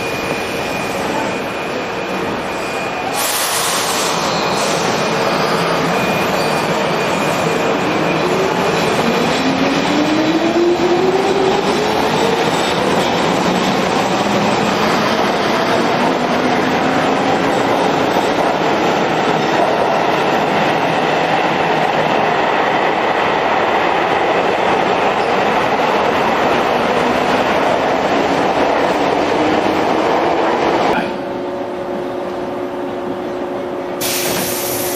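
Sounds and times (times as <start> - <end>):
train wheels on rail: 0.0 - 34.9.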